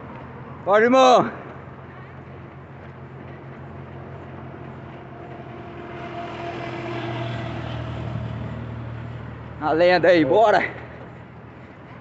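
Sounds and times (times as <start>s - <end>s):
vehicle engine hum passing: 1.3s - 12.0s.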